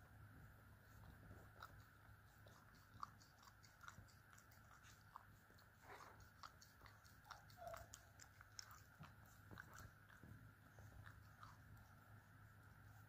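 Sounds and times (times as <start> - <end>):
puppy licking and nibbling: 0.4 - 13.0.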